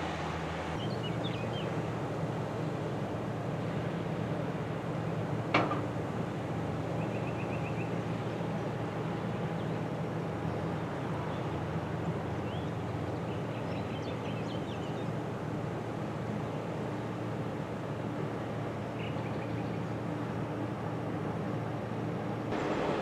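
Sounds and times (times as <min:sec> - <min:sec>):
ship engines droning: 0:00.0 - 0:23.0.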